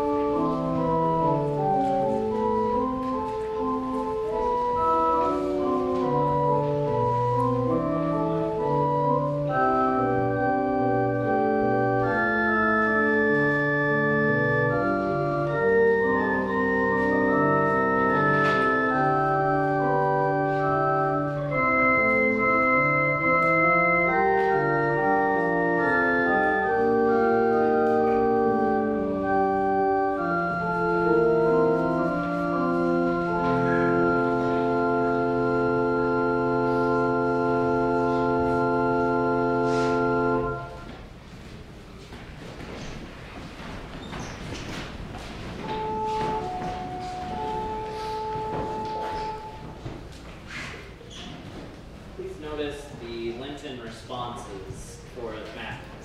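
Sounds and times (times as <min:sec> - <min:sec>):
church organ chords: 0:00.0 - 0:41.2, 0:45.4 - 0:50.0.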